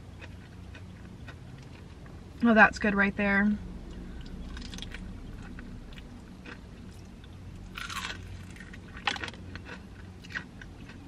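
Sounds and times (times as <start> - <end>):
chewing crispy fried chicken: 0.0 - 2.4, 3.9 - 11.0.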